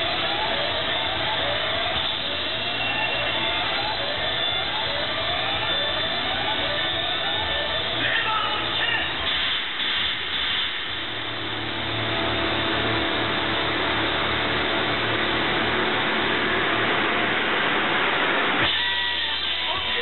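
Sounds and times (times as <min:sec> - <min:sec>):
soundtrack music over speakers: 0:00.0 - 0:20.0
steady wash of noise: 0:00.0 - 0:20.0.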